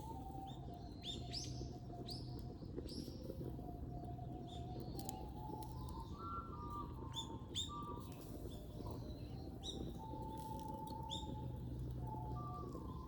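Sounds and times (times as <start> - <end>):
soft recorder melody: 0.0 - 13.0.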